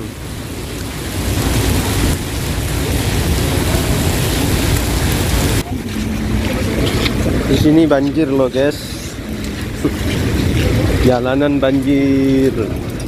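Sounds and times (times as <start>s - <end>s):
deep rumble: 0.0s - 13.0s
heavy rain hissing: 0.0s - 13.0s.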